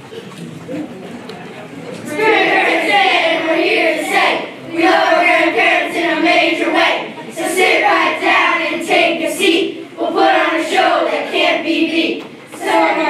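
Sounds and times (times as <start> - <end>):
children's choir singing: 1.9 - 13.0.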